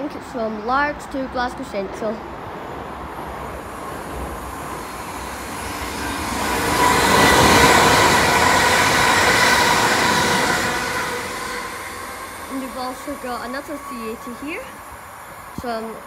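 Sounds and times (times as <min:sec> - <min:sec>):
train wheels rumbling on rails: 0:00.0 - 0:16.0
electric train whine: 0:00.2 - 0:16.0.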